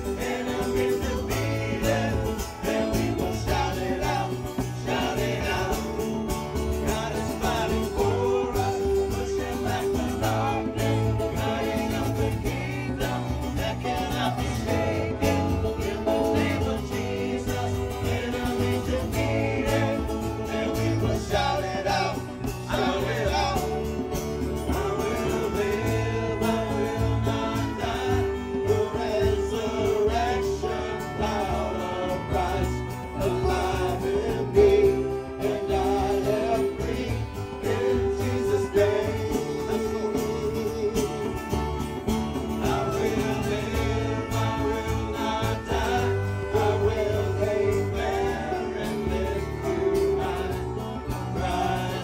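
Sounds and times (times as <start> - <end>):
bass line: 0.0 - 52.0
choir singing: 0.0 - 52.0
worship band playing: 0.0 - 52.0.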